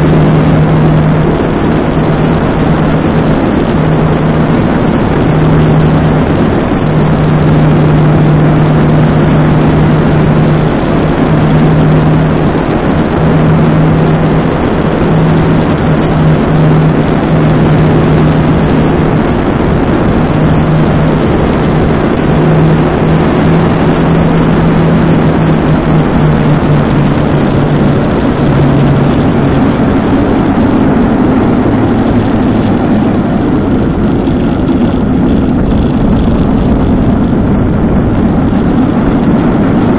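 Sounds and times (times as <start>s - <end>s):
low motorcycle engine hum: 0.0s - 39.9s
wind and road noise: 0.0s - 39.9s.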